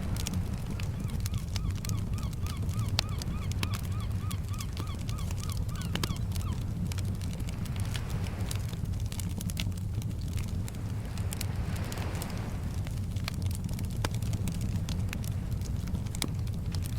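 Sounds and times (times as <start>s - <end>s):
low rumble of surf: 0.0s - 16.9s
wood fire crackling: 0.0s - 16.9s.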